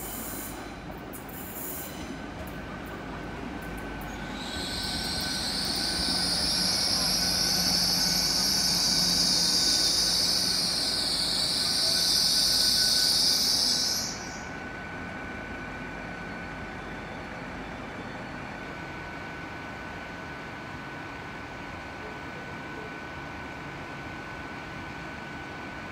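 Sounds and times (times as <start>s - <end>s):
train wheels squealing on rails: 0.0s - 25.8s.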